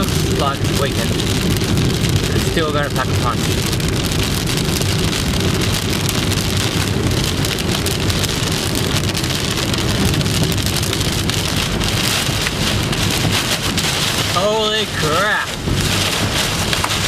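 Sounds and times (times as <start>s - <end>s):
heavy rain on a car: 0.0s - 17.0s
low rumble: 0.0s - 17.0s.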